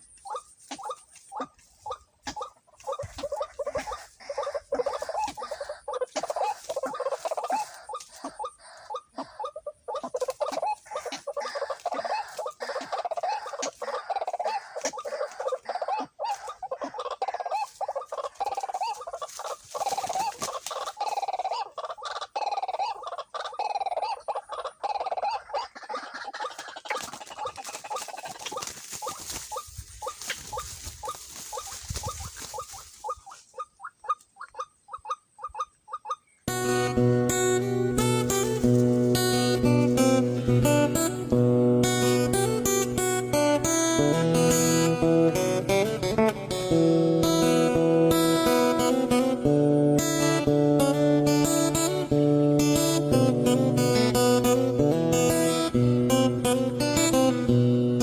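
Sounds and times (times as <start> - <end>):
waterhen calling: 0.0 - 54.6.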